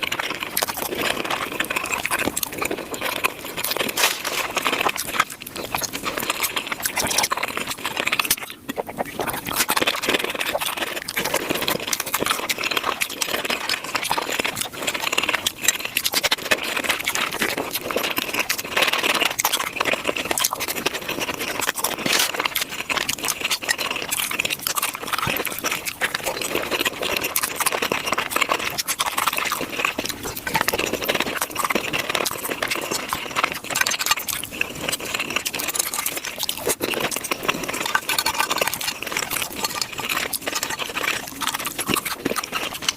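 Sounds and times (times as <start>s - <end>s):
sped-up chewing and crunching: 0.0s - 42.9s.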